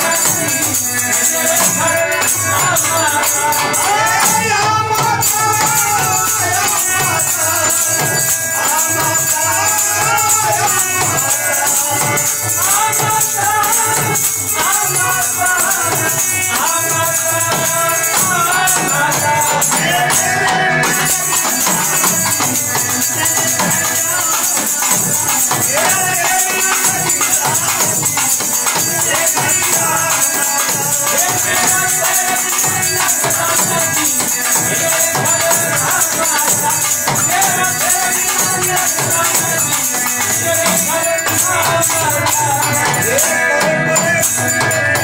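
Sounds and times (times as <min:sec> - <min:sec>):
group singing: 0:00.0 - 0:45.0
harmonium: 0:00.0 - 0:45.0
jingling hand percussion: 0:00.0 - 0:45.0
steady drum beat: 0:00.0 - 0:45.0.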